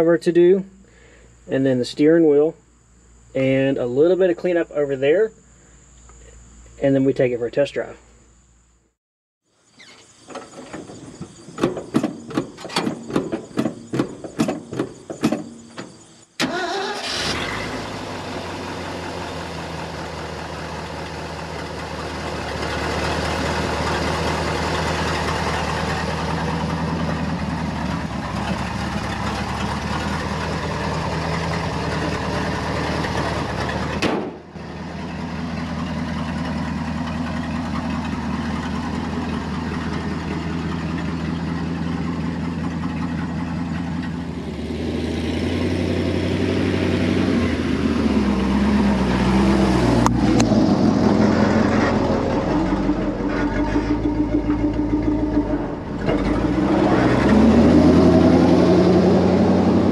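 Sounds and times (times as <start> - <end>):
truck engine running: 10.4 - 59.9.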